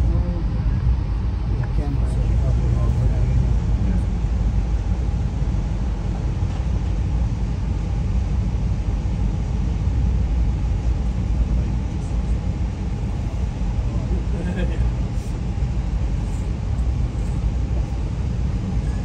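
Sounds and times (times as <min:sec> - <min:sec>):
moving train rumbling: 0:00.0 - 0:19.0.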